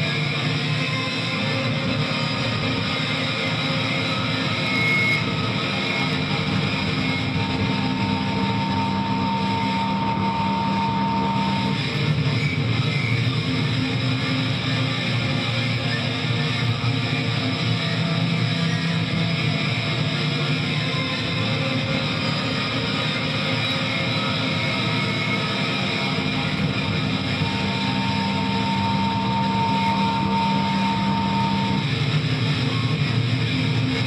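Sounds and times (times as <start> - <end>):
distorted electric guitar: 0.0 - 34.0.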